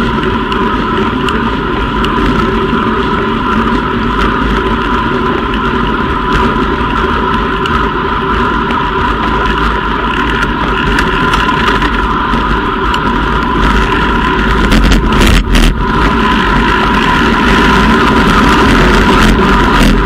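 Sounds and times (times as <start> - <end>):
high whine: 0.0 - 20.0
wind rushing over microphone: 0.0 - 20.0.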